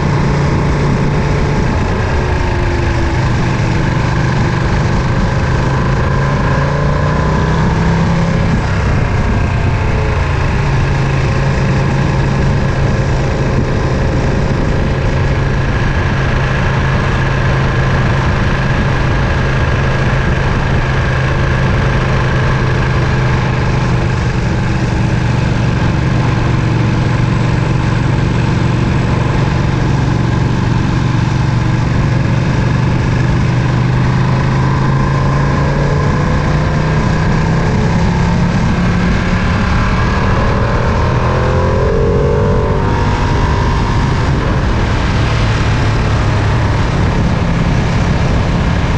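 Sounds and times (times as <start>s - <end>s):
motorcycle engine running steadily: 0.0s - 48.9s.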